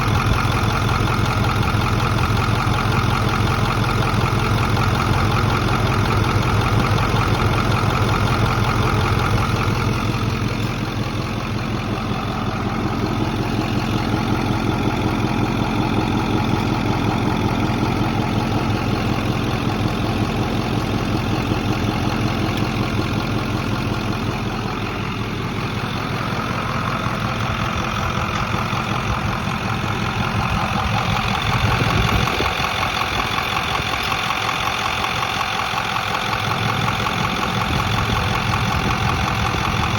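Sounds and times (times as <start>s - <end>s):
engine clicking: 0.0s - 39.9s
truck engine idling: 0.0s - 39.9s.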